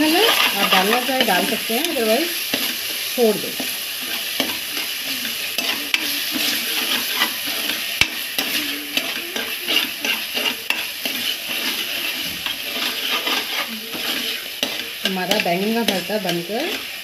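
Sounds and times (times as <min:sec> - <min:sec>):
food sizzling while frying: 0:00.0 - 0:17.0
spoon scraping in a pot: 0:00.0 - 0:17.0.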